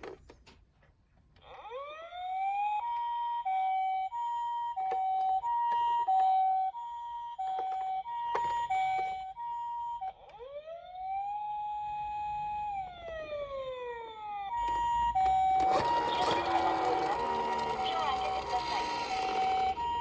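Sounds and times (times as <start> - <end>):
siren wail: 1.4 - 20.0
two-tone ambulance siren: 1.4 - 20.0.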